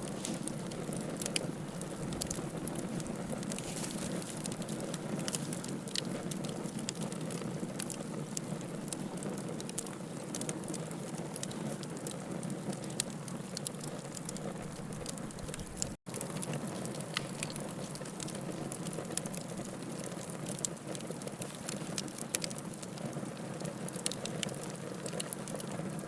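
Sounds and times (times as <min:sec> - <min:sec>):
fire rushing: 0:00.0 - 0:25.5
firewood crackling and popping: 0:00.0 - 0:26.0.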